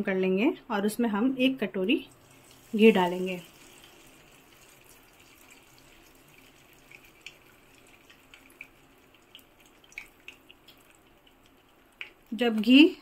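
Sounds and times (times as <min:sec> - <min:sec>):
low steady hiss: 0:00.0 - 0:13.0
ghee ticking and popping in pan: 0:02.1 - 0:13.0.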